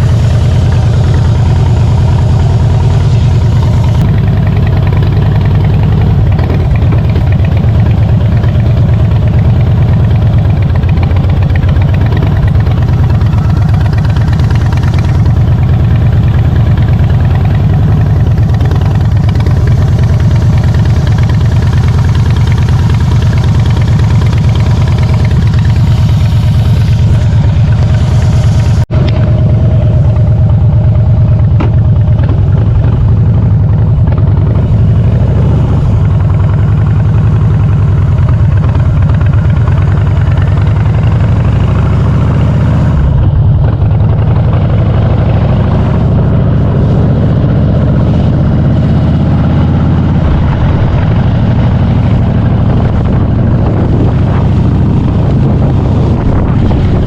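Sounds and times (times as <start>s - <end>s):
motorcycle engine running loudly: 0.0s - 57.0s.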